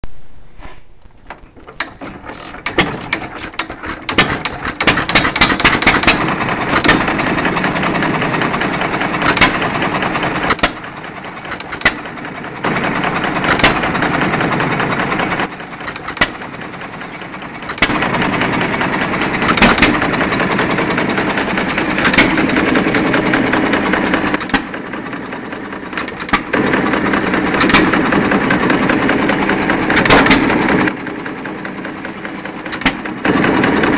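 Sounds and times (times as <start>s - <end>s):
hit-and-miss engine firing: 2.0s - 31.6s.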